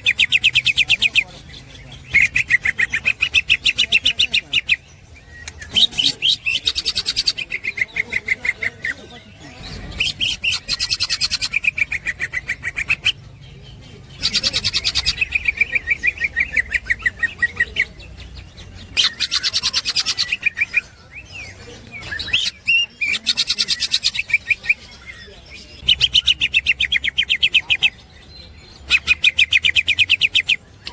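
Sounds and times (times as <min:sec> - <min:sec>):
bird chattering song: 0:00.0 - 0:30.9.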